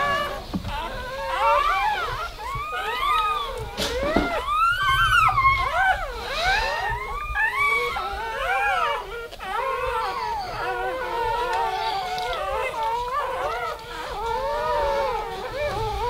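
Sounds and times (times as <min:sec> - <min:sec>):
puppies crying: 0:00.0 - 0:16.0.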